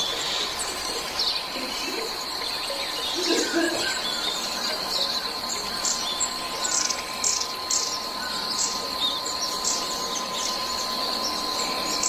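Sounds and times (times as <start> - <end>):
birds chirping: 0.0 - 12.0
high insect drone: 0.0 - 12.0.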